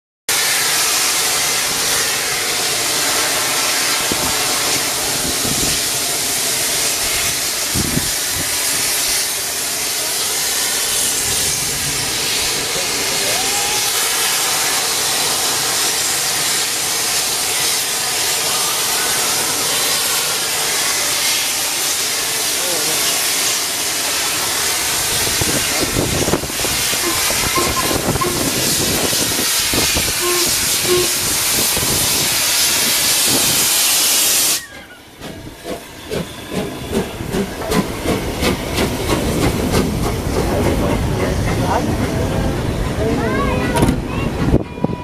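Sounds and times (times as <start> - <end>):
steam locomotive hissing steam: 0.3 - 45.0.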